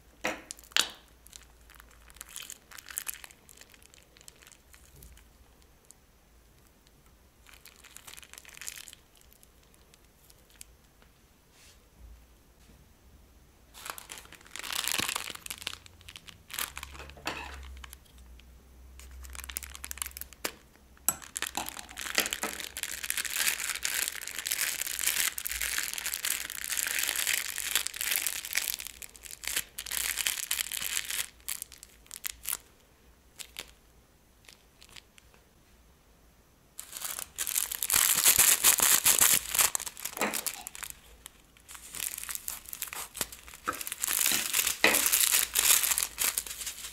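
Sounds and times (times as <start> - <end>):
plastic bags crinkling: 0.0 - 6.0, 7.4 - 10.7, 13.7 - 18.2, 19.0 - 32.8, 33.4 - 33.8, 34.4 - 35.3, 36.8 - 46.9.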